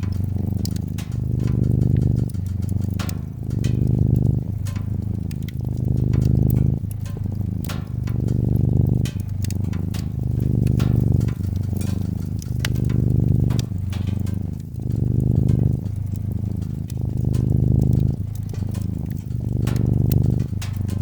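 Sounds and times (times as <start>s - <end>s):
cat purring: 0.0s - 21.0s
wood fire popping and crackling: 0.0s - 21.0s.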